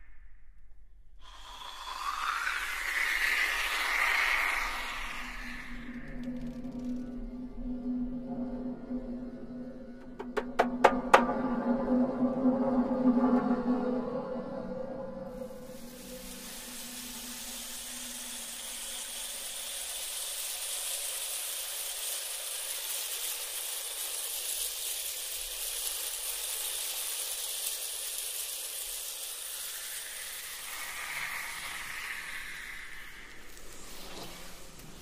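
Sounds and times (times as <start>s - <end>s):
steady hiss: 1.2s - 11.0s, 15.2s - 35.0s.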